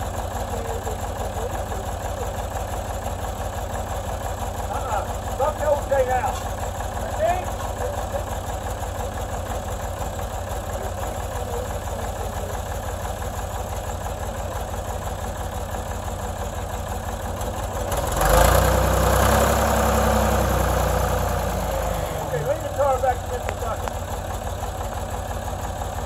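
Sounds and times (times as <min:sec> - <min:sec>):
backhoe engine idling: 0:00.0 - 0:26.0.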